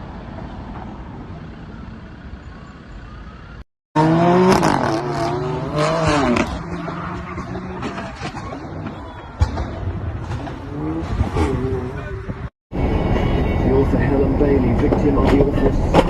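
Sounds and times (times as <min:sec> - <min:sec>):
car road noise: 0:00.0 - 0:16.0.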